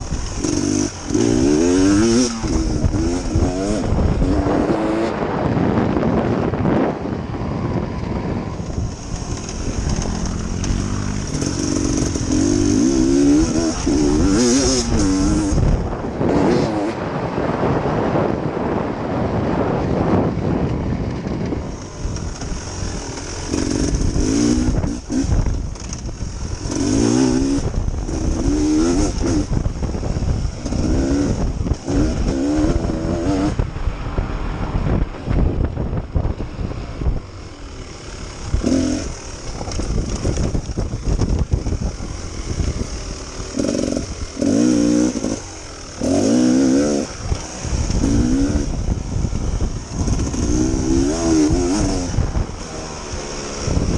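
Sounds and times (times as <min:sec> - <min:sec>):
dirt bike engine revving: 0:00.0 - 0:07.1, 0:08.4 - 0:18.2, 0:21.6 - 0:53.9.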